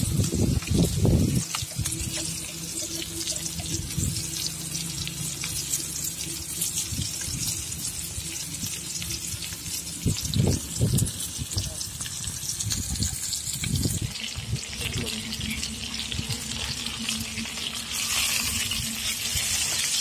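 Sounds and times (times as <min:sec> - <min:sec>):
fish sizzling in oil: 0:00.0 - 0:20.0
low steady hum: 0:00.0 - 0:20.0.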